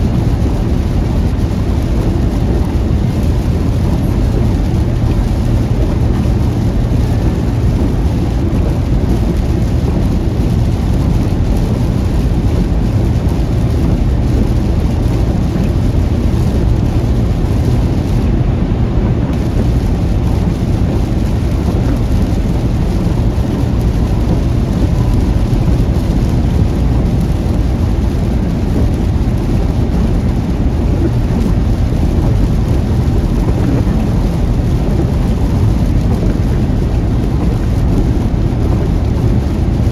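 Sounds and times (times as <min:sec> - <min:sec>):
car driving low rumble: 0:00.0 - 0:39.9.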